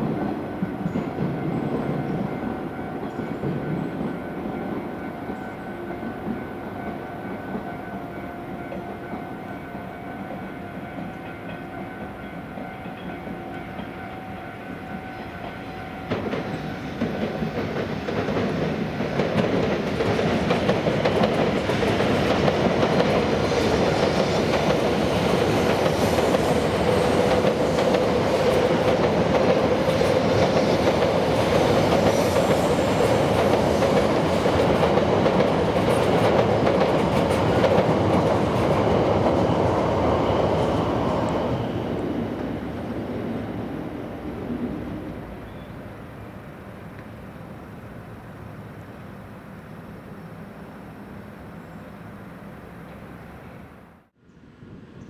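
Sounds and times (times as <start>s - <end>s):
train whining tones: 0.0s - 54.1s
train rushing noise: 0.0s - 55.0s.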